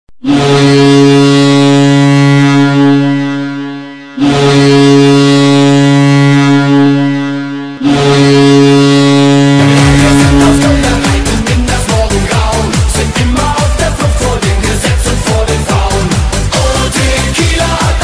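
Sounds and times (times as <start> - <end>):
goal horn blasts: 0.2 - 14.9.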